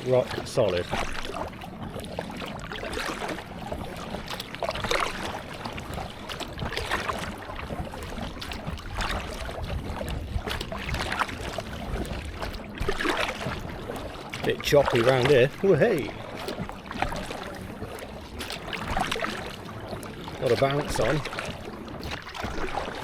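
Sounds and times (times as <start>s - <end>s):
kayak paddle splashing: 0.0s - 23.0s
waves lapping against kayak hull: 0.0s - 23.0s
wind rumble on microphone: 0.0s - 23.0s.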